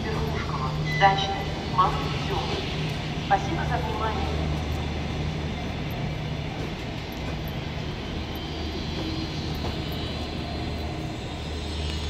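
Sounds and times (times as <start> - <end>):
steady low drone: 0.0 - 12.0
train rolling past: 0.0 - 12.0.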